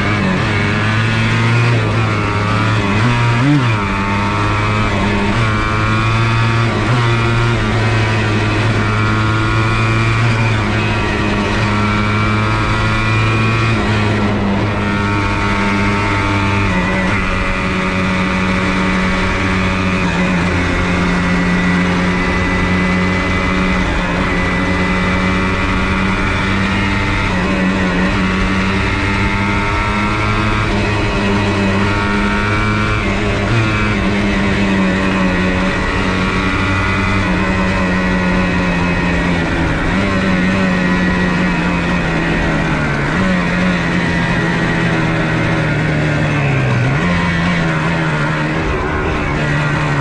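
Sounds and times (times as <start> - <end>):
two-stroke engine cruising: 0.0 - 50.0.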